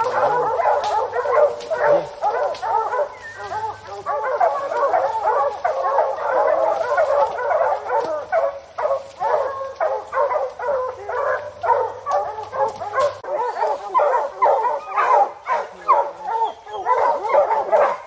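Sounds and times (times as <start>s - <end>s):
hounds baying and barking: 0.0s - 18.0s.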